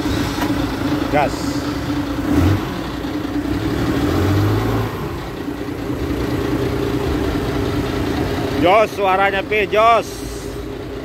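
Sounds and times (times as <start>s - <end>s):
forklift engine revving: 0.0s - 9.0s.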